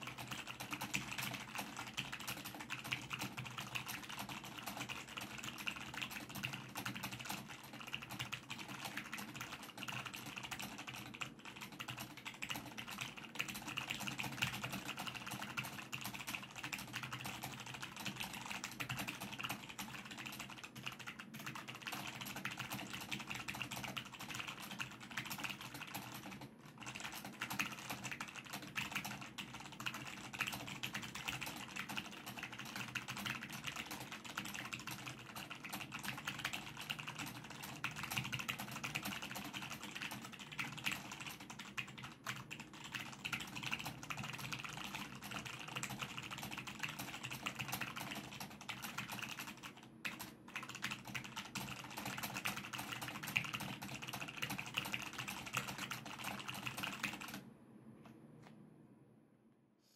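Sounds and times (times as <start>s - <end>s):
mechanical keyboard typing: 0.0s - 57.4s.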